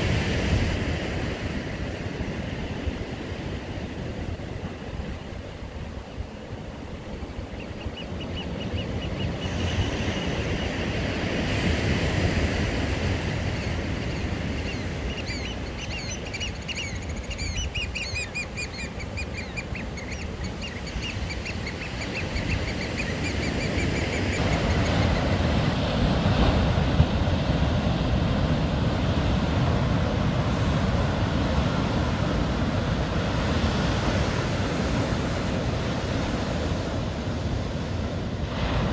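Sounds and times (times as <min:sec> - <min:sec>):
surf crashing on rocky shore: 0:00.0 - 0:38.9.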